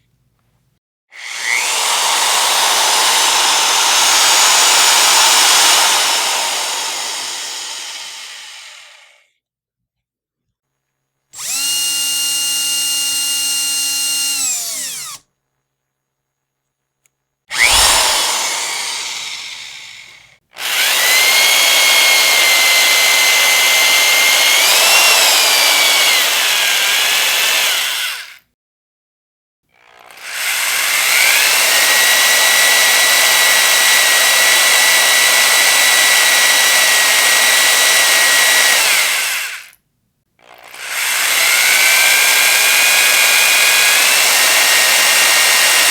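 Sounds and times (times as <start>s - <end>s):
electric power drill whining: 1.2s - 9.2s, 11.4s - 15.2s, 17.5s - 28.4s, 30.0s - 39.8s, 40.4s - 45.9s.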